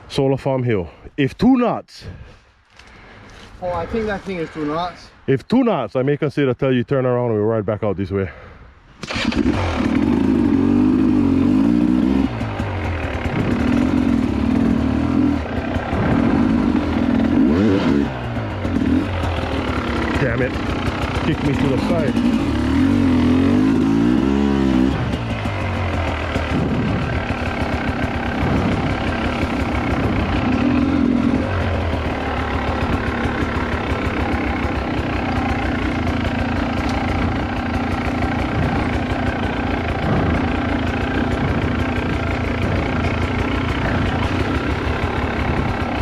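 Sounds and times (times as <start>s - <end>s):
dirt bike engine revving: 9.0s - 46.0s.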